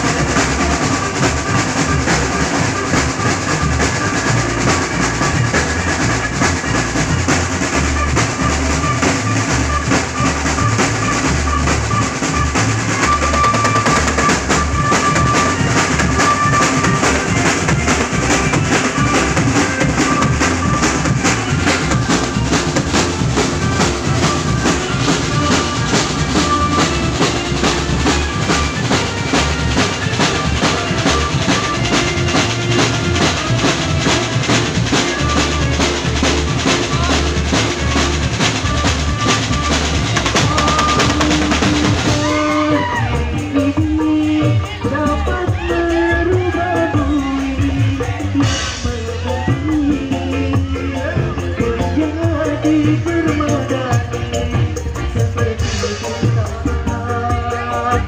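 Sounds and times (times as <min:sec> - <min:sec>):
busy drum kit: 0:00.0 - 0:58.0
instrumental band music: 0:00.0 - 0:58.0.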